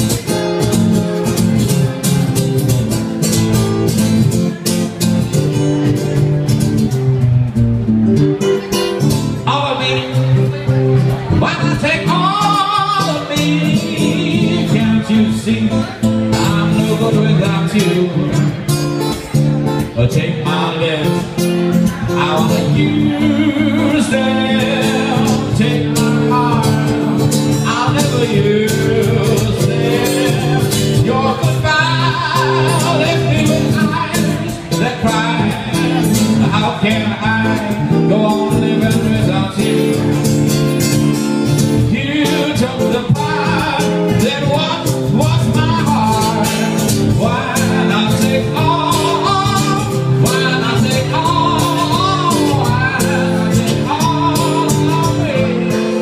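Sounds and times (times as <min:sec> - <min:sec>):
acoustic guitars strumming: 0:00.0 - 0:56.0
man singing: 0:08.6 - 0:56.0.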